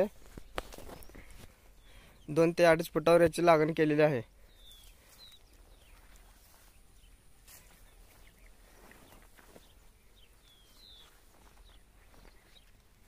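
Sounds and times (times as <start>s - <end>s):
faint bird chirps: 0.0s - 2.8s, 4.1s - 13.0s.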